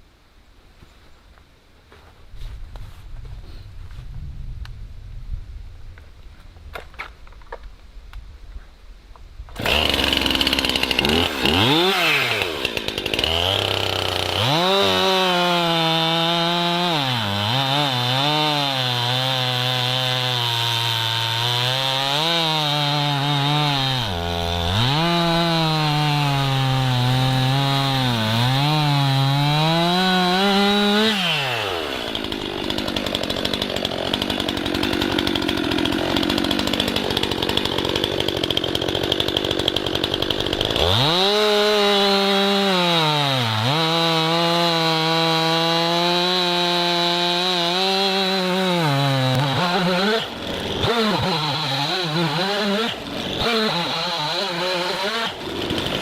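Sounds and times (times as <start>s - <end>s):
chainsaw cutting log: 9.6s - 56.0s
chainsaw idling: 9.6s - 56.0s.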